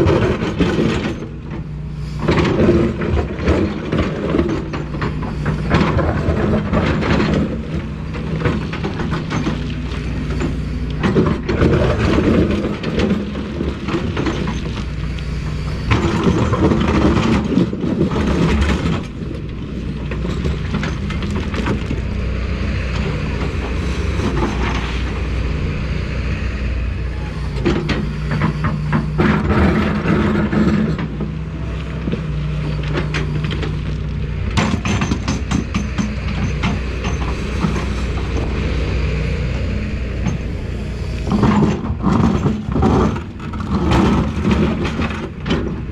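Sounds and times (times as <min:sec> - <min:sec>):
metal knocks and clanks: 0:00.0 - 0:25.8, 0:27.0 - 0:31.4, 0:32.0 - 0:38.9
excavator diesel engine running: 0:00.0 - 0:45.9.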